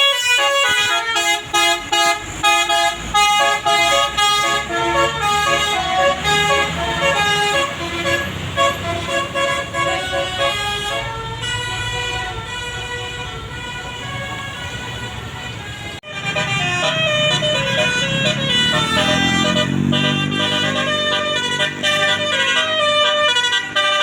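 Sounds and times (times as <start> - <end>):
bus engine rumble: 0.0 - 24.0
musical air horn melody: 0.0 - 24.0.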